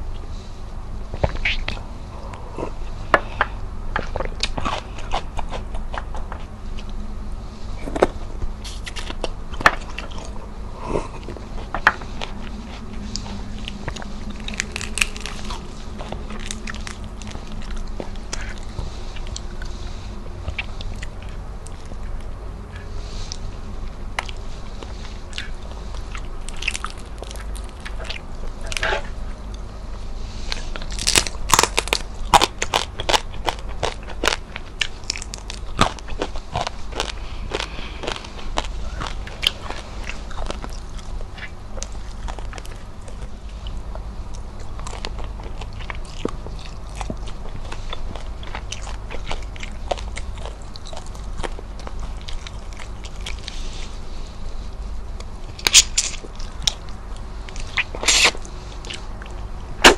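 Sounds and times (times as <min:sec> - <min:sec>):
chewing crispy fried fish: 0:01.1 - 0:59.9.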